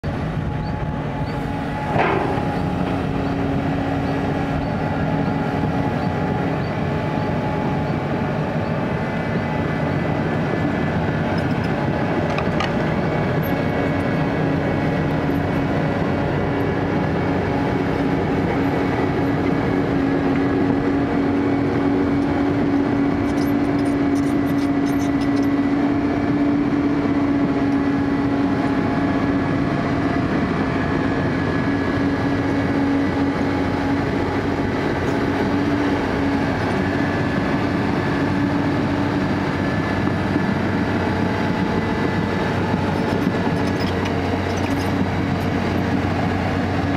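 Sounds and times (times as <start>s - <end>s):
steel crawler tracks moving: 0.0s - 26.0s, 33.8s - 46.9s
diesel engine running: 0.0s - 46.9s
steady mechanical whine: 0.0s - 46.9s.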